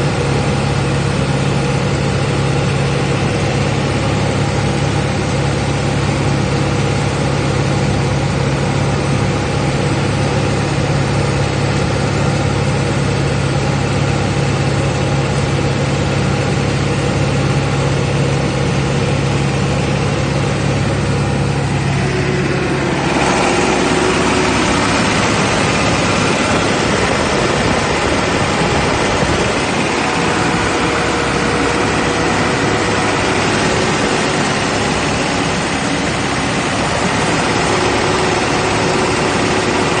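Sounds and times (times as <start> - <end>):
diesel generator running: 0.0 - 40.0.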